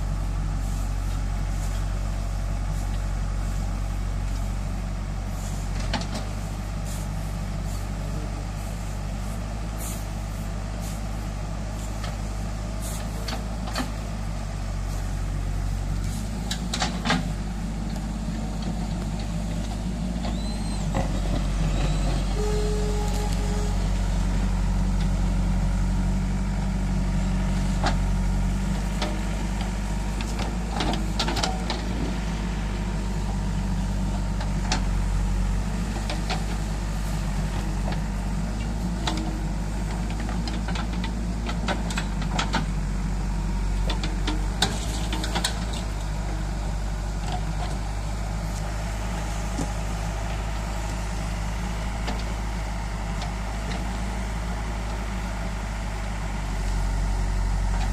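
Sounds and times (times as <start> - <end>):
diesel engine running under load: 0.0 - 57.9.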